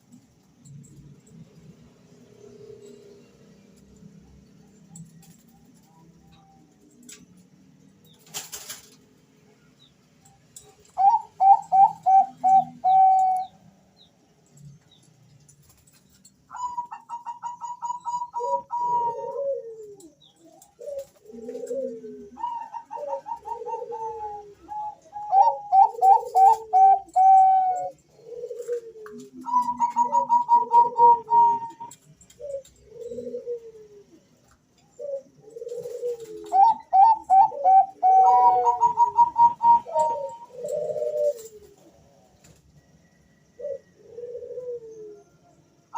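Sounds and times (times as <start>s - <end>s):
doves calling: 0.0s - 45.9s.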